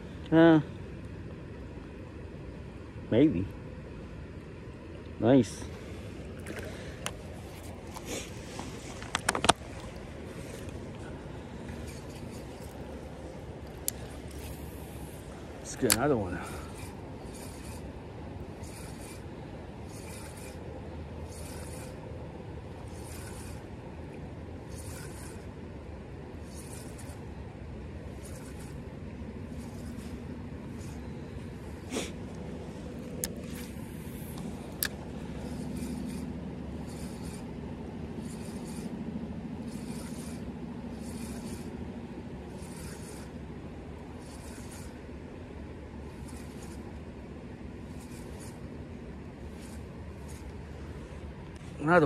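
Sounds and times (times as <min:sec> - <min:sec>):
steady low rumble: 0:00.0 - 0:52.0
steady low rush: 0:00.0 - 0:52.0
fishing reel raspy whir: 0:10.2 - 0:52.0.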